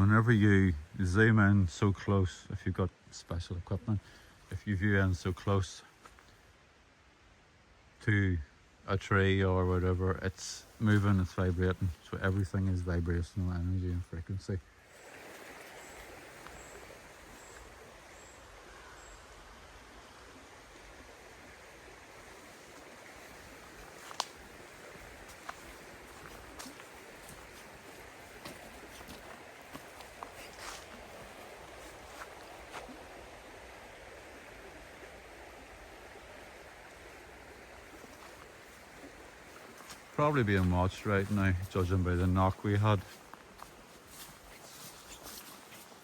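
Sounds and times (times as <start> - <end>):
outdoor background hiss: 0.0 - 46.0.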